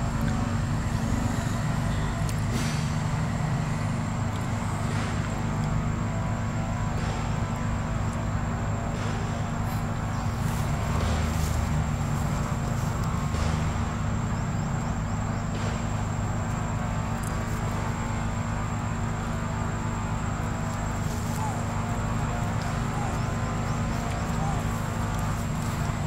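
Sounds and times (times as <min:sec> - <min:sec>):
low motor drone: 0:00.0 - 0:26.0.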